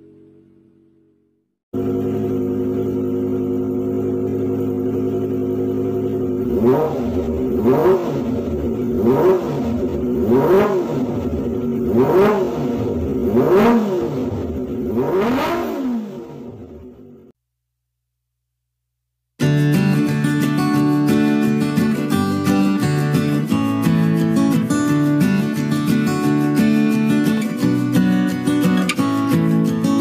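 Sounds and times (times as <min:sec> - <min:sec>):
motorcycle engine revving: 0:00.0 - 0:17.3, 0:20.0 - 0:30.0.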